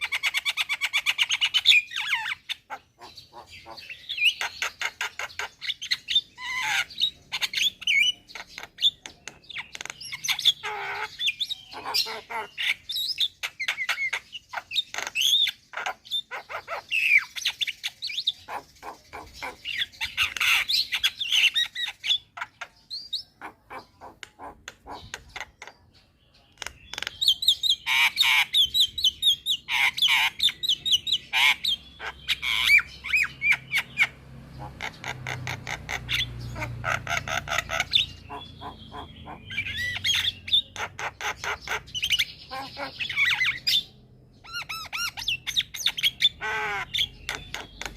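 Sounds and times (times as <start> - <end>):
myna bird singing: 0.0 - 47.9.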